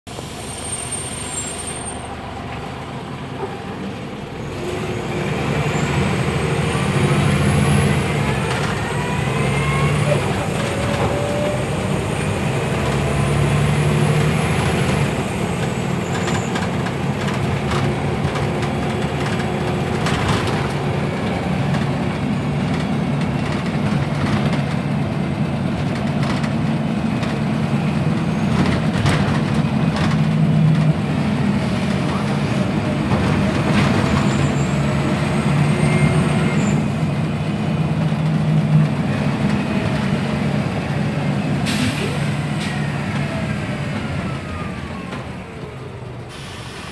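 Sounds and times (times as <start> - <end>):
bus engine running: 0.1 - 46.9.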